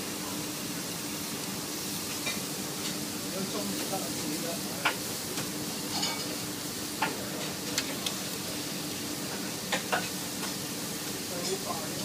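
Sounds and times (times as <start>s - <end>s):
steaks sizzling on a grill: 0.0s - 12.0s.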